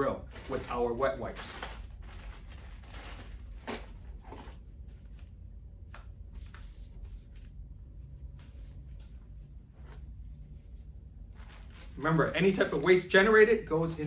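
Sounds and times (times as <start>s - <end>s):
low steady hum: 0.0s - 14.0s
wet wipes rubbing and rustling: 0.3s - 14.0s.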